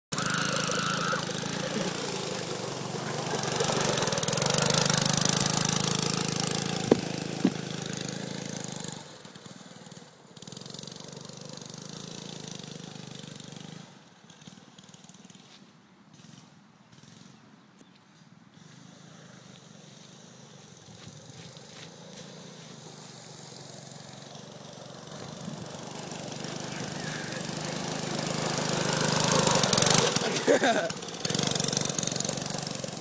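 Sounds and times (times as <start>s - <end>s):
go-kart engine running: 0.1s - 17.4s, 18.5s - 33.0s.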